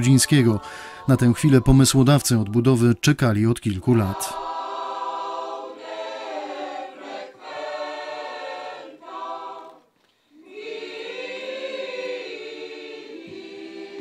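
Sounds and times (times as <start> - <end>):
choir singing held notes: 0.0 - 2.8, 3.8 - 14.0.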